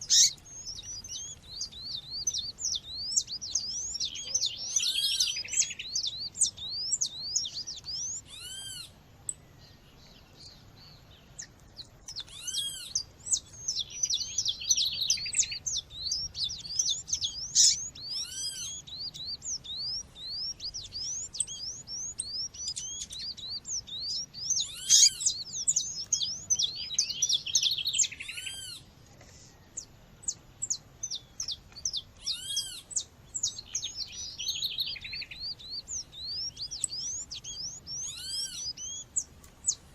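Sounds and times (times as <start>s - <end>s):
loud arching bird call: 0.0s - 8.9s, 12.3s - 28.9s, 32.2s - 39.0s.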